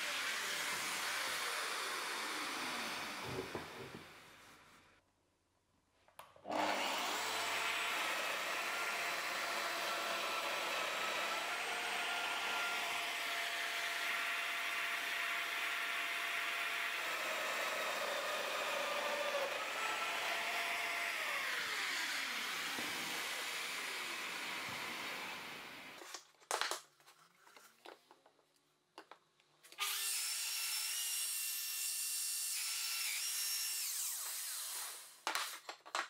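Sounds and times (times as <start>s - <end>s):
joiner motor cutting wood: 0.0s - 4.5s, 6.5s - 26.0s, 29.7s - 35.2s.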